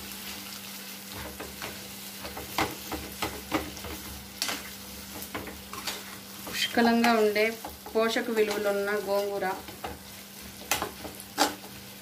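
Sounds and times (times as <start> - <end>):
food sizzling in a pan: 0.0 - 12.0
spatula scraping and knocking pan: 1.1 - 11.8.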